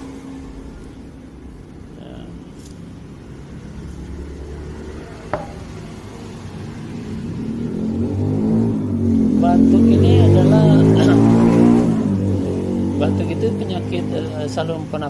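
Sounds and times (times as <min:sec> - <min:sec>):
motor engine rumbling: 0:00.0 - 0:15.0.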